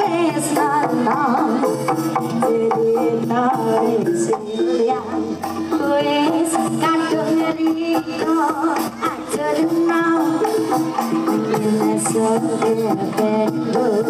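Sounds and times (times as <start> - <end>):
rapid gamelan percussion: 0.0 - 14.0.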